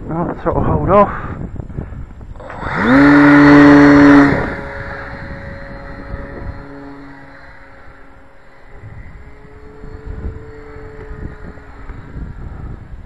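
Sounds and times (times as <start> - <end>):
model plane motor whining: 2.2 - 13.0.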